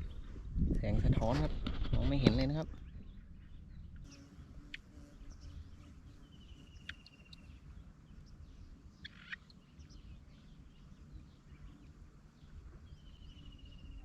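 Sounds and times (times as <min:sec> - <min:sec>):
faint bird chirps: 0:02.7 - 0:14.0.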